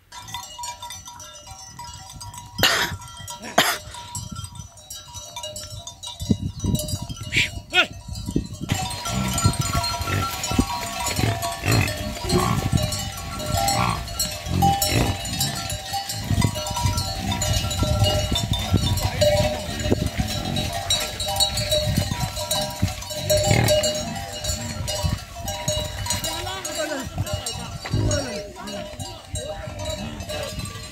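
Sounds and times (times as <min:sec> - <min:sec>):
animal bells ringing and clanking: 0:00.0 - 0:30.9.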